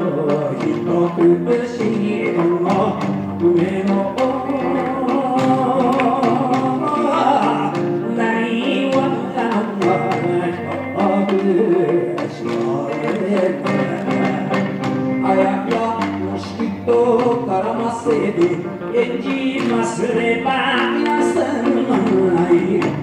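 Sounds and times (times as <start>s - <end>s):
instrumental folk accompaniment: 0.0s - 23.0s
man singing into microphone: 0.0s - 23.0s.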